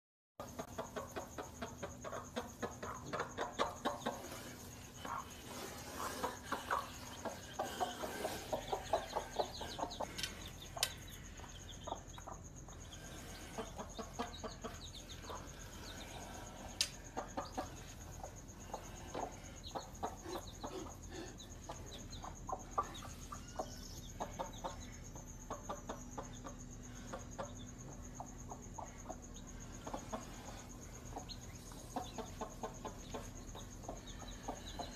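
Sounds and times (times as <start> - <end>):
chicks cheeping: 0.4 - 34.9
hen clucking: 0.4 - 34.9.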